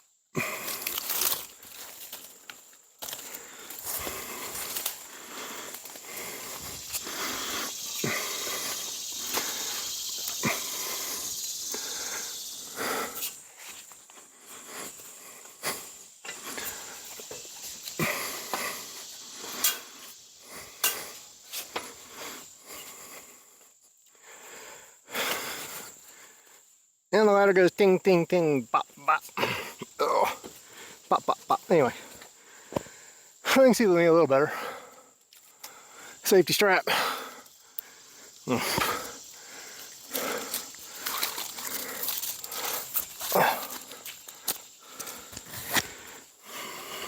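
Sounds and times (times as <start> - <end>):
man breathing hard and wheezing: 0.3 - 2.4, 3.1 - 26.8, 28.7 - 33.7, 34.4 - 47.0.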